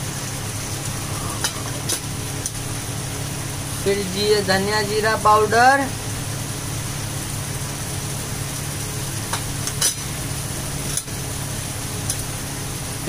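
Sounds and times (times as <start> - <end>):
masala sizzling in oil: 0.0 - 4.6, 5.4 - 13.0
constant low hum: 0.0 - 13.0.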